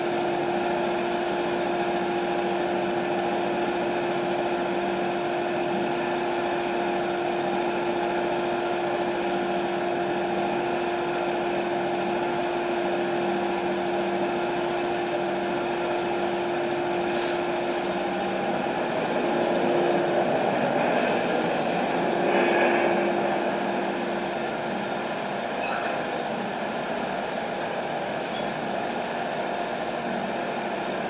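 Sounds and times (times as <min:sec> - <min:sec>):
band sawmill idling hum: 0:00.0 - 0:31.0.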